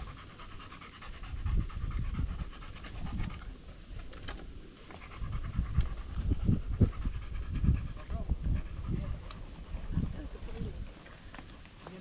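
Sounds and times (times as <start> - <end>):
dog panting rapidly: 0.0 - 3.6, 4.8 - 10.9.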